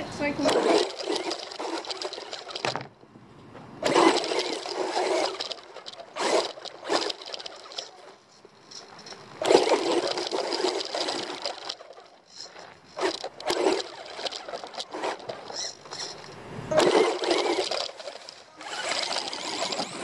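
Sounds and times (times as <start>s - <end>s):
rc car tyre and drivetrain noise: 0.0s - 2.9s, 3.5s - 20.0s.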